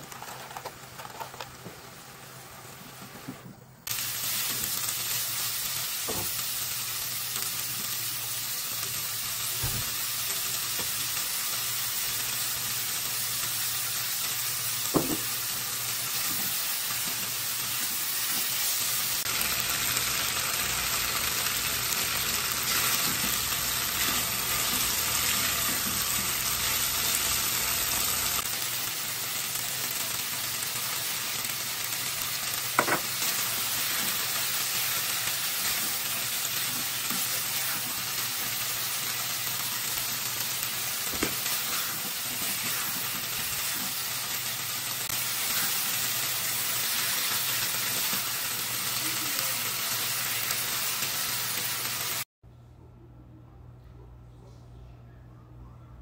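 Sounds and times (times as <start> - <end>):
food sizzling in a frying pan: 0.0 - 52.3.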